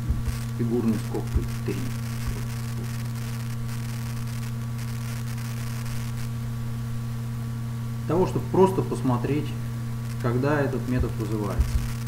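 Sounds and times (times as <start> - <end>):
faint hiss and crackle: 0.0 - 12.0
low electrical hum: 0.0 - 12.0.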